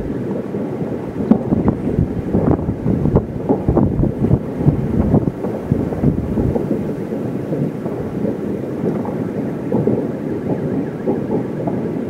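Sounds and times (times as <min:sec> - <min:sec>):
distant fireworks booming: 0:00.0 - 0:12.0.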